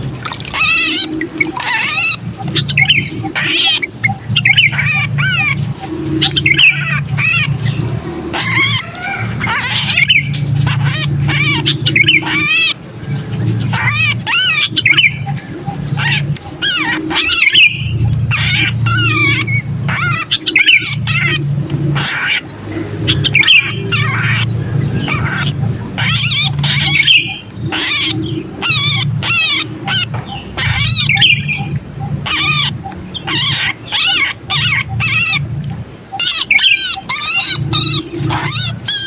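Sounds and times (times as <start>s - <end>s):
bird distress calls: 0.0s - 39.0s.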